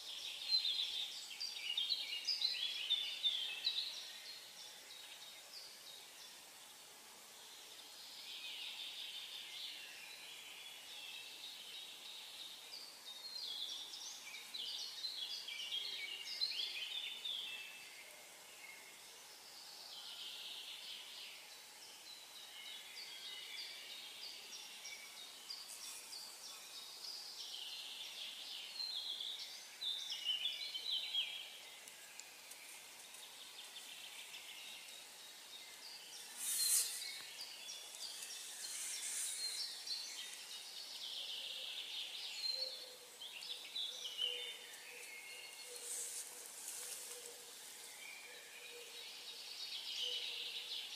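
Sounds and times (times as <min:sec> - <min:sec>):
faint background hiss: 0:00.0 - 0:50.9
songbirds singing: 0:00.0 - 0:50.9.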